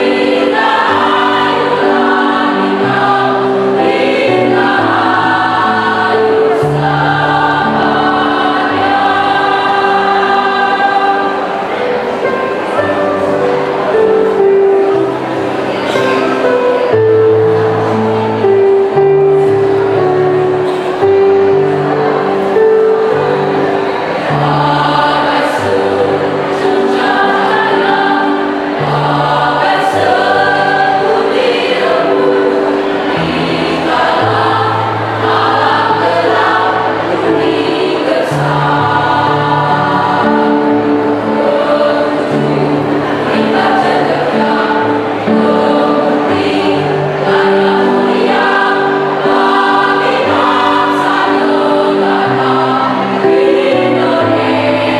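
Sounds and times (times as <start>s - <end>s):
mixed choir singing: 0.0s - 54.9s.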